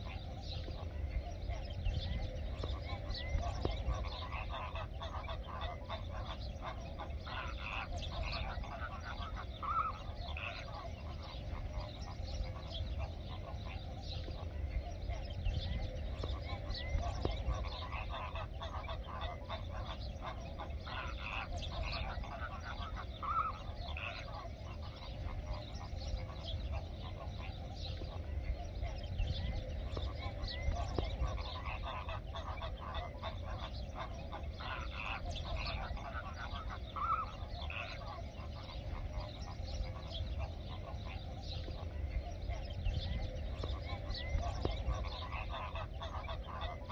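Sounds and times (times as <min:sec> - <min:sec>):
flamingos calling: 0:00.0 - 0:46.9.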